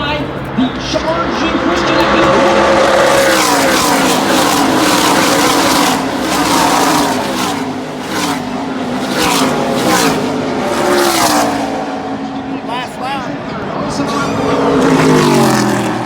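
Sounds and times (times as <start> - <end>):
atv engine revving: 0.0 - 13.2, 13.9 - 16.0.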